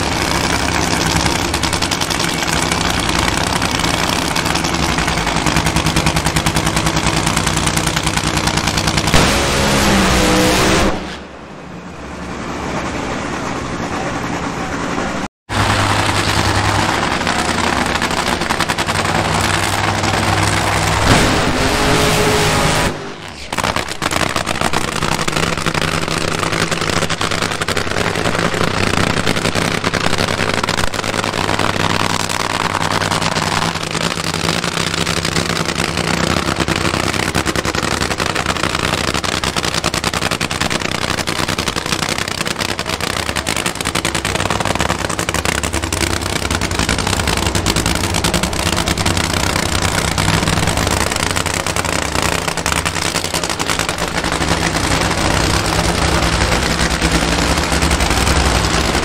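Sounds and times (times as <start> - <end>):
drag racing engine running loud: 0.0 - 59.0.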